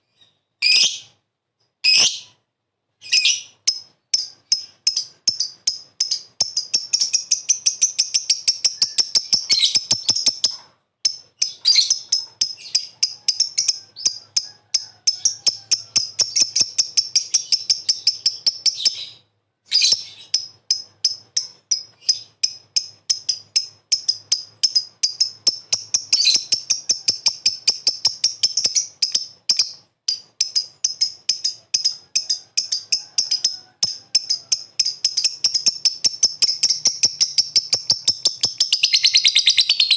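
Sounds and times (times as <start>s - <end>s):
lovebird shrill chirping: 0.1s - 1.1s, 1.8s - 2.4s, 3.0s - 39.9s.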